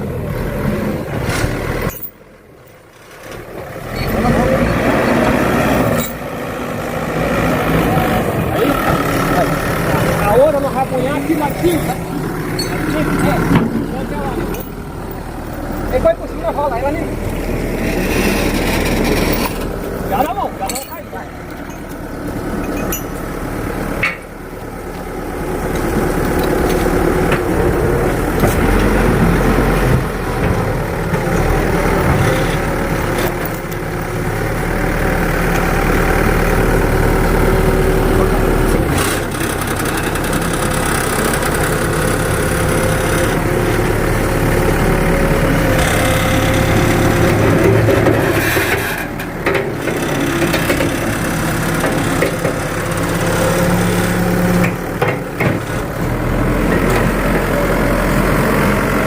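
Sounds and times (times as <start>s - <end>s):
engine idling: 1.6s - 59.0s.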